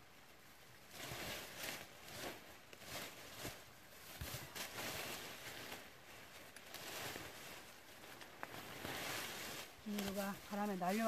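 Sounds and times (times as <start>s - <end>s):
dry leaves and twigs crackling: 0.0s - 11.0s.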